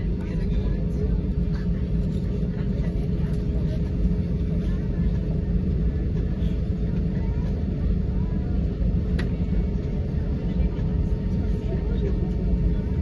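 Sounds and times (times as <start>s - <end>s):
low rumble of engines and wheels: 0.0s - 13.0s.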